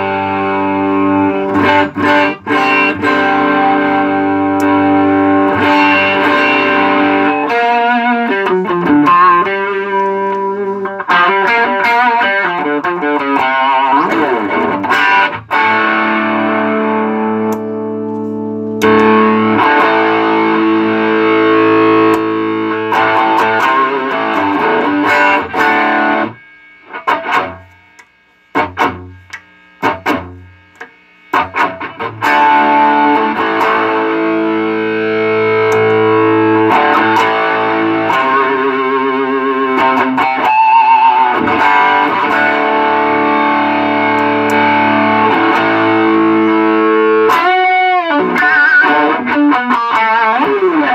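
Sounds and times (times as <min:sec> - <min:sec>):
overdriven electric guitar: 0:00.0 - 0:50.9.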